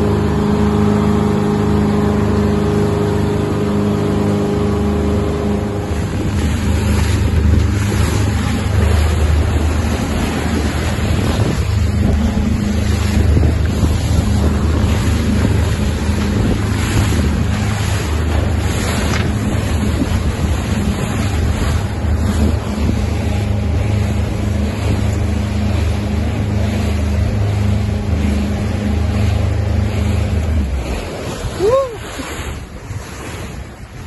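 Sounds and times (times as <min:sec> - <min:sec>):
motorboat engine humming: 0:00.0 - 0:34.0
water rushing: 0:00.0 - 0:34.0
wind buffeting microphone: 0:00.0 - 0:34.0.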